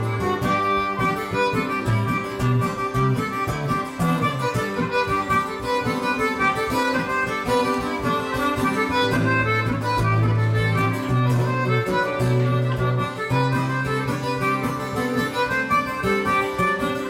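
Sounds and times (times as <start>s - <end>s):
acoustic guitar: 0.0s - 17.0s
concertina chords: 0.0s - 17.0s.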